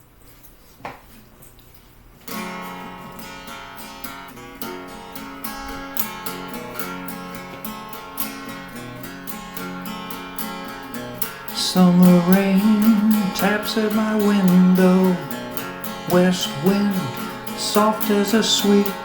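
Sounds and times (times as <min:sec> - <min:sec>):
acoustic guitar strumming: 0:02.3 - 0:19.0.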